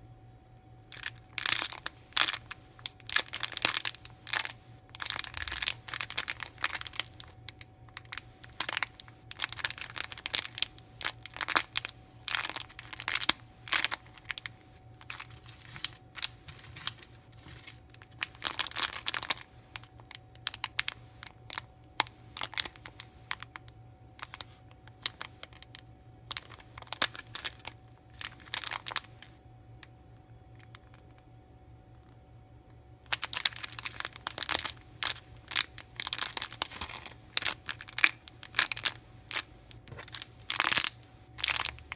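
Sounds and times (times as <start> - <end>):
plastic packaging crinkling: 0.8 - 23.6, 24.2 - 29.4, 30.6 - 31.1, 33.1 - 41.9.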